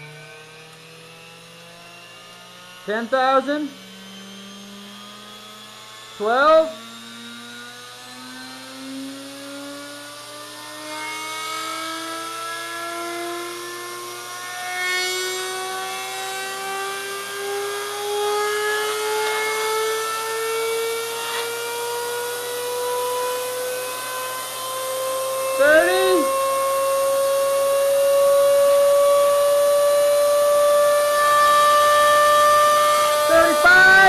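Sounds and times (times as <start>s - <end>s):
electric motor whine: 0.0s - 34.0s.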